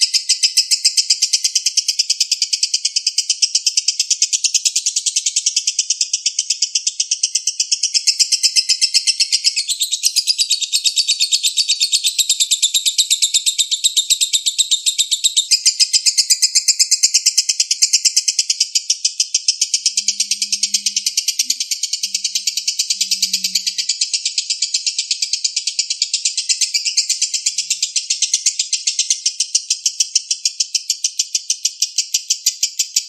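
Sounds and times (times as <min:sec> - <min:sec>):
bird chattering trill: 0:00.0 - 0:33.0.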